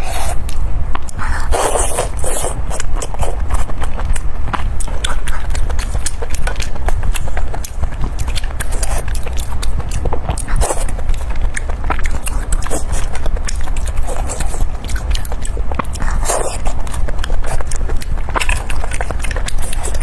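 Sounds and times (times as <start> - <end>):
chewing and wet mouth sounds: 0.0 - 20.0.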